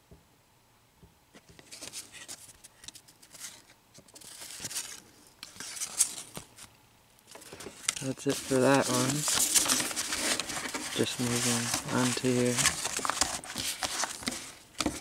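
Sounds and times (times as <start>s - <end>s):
cards sliding and scraping: 1.4s - 6.7s, 7.3s - 15.0s.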